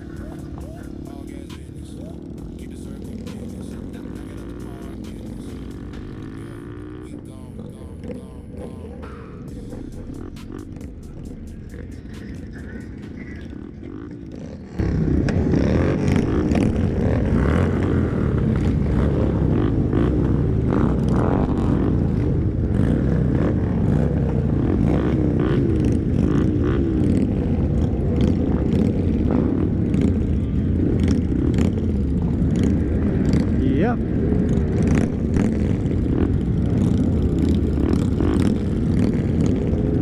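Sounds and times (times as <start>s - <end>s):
motorcycle engines running: 0.0s - 40.0s.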